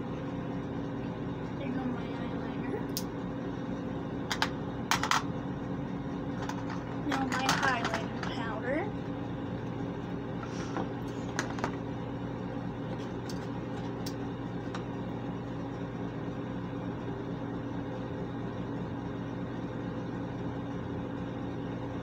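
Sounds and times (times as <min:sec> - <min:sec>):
ventilation fan humming: 0:00.0 - 0:22.0.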